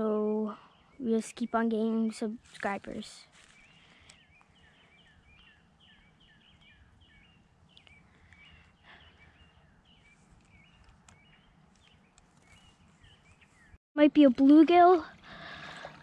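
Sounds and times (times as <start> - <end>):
faint bird chirping: 0.2 - 13.8.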